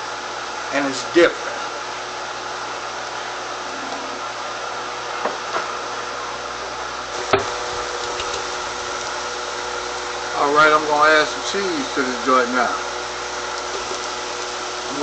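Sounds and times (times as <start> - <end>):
fan-like hiss: 0.0 - 15.0.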